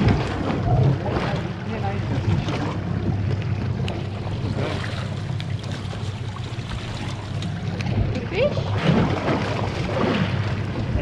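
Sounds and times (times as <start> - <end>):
boat engine idling: 0.0 - 11.0
sea wash: 0.0 - 11.0.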